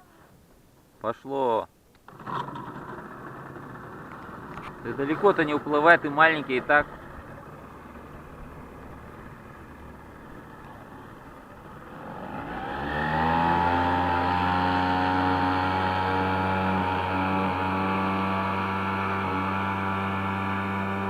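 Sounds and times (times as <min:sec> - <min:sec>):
outboard motor running: 0:02.1 - 0:21.0.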